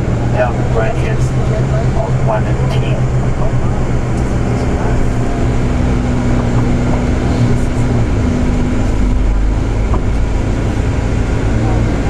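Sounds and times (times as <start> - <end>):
bus engine and road noise: 0.0 - 12.0
low hum: 0.0 - 12.0.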